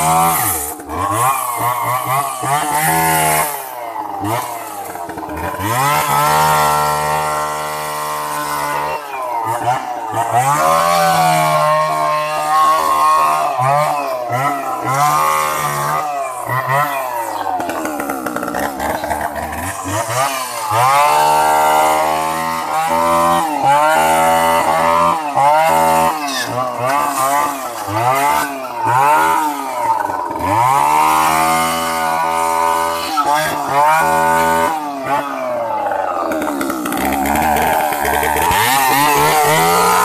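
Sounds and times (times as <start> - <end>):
chainsaw revving and cutting: 0.0 - 40.0.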